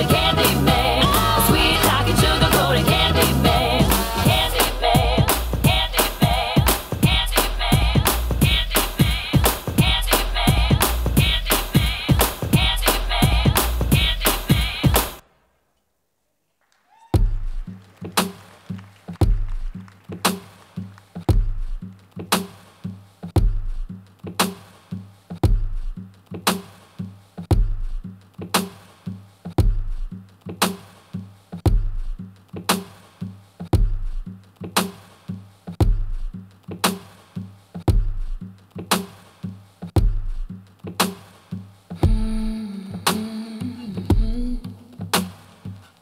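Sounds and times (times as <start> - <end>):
slow electronic drum beat: 0.0 - 15.2, 17.2 - 46.0.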